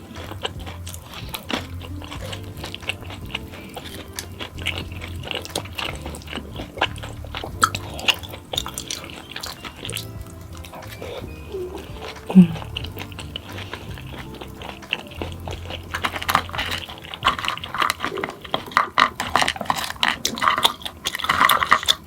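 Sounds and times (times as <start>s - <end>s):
background music: 0.0s - 22.0s
person biting and chewing food: 0.0s - 22.0s.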